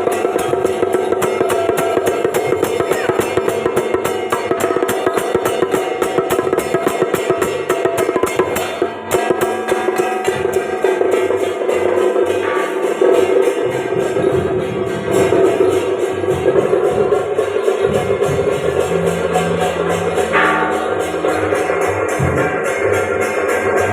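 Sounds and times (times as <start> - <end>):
fast dense percussion: 0.0 - 23.9.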